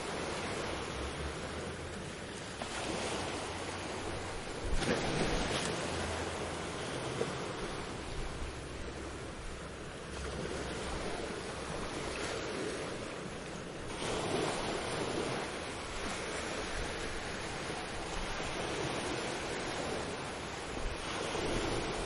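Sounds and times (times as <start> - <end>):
ocean waves on beach: 0.0 - 22.0.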